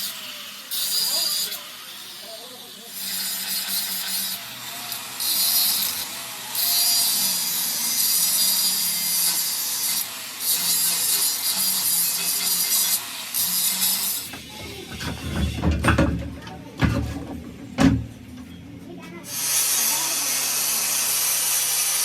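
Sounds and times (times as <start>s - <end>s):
grinder rasping on metal: 0.0s - 15.7s, 19.2s - 22.0s.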